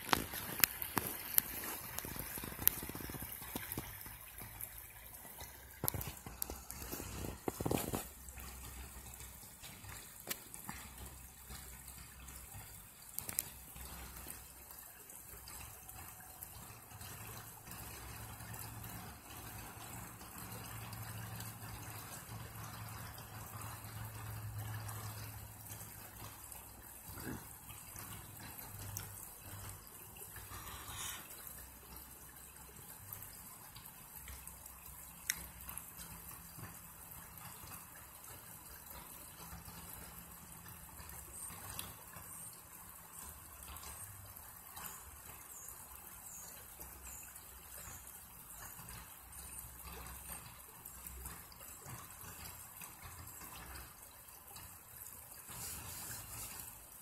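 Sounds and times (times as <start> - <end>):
creek babbling over rocks: 0.0 - 57.0.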